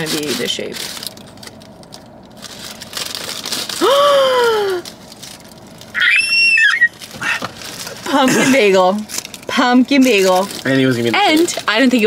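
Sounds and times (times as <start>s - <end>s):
food wrapping crinkling: 0.0s - 12.0s.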